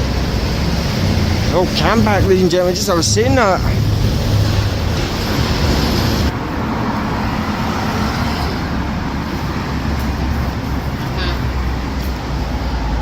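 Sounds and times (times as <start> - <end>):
engine rumble: 0.0 - 13.0
passing cars: 0.0 - 13.0
traffic hiss: 0.0 - 13.0.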